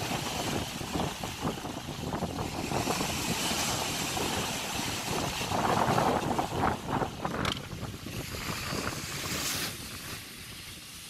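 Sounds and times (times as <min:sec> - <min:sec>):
waves breaking on rocks: 0:00.0 - 0:11.0.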